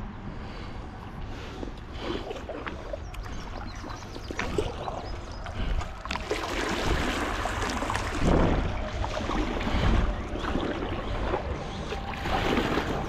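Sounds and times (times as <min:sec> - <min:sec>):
steady low rumble: 0:00.0 - 0:13.0
river water splashing: 0:01.6 - 0:13.0.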